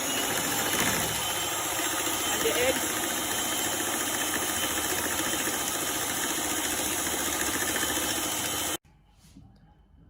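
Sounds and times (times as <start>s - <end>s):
electric mixer running: 0.0s - 8.8s.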